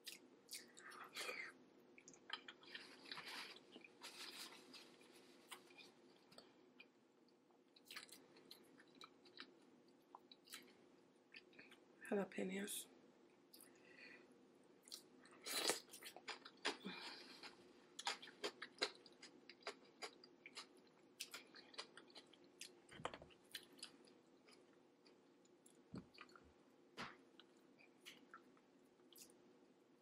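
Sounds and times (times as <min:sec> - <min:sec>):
person chewing and mouth smacks: 0:00.0 - 0:04.6, 0:05.5 - 0:11.9, 0:13.4 - 0:13.8, 0:14.8 - 0:29.4.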